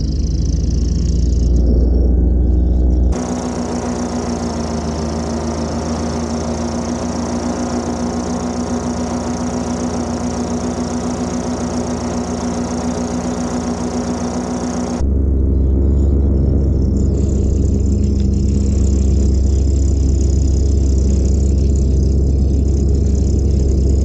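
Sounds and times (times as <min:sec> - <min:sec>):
paramotor engine droning: 0:00.0 - 0:24.0.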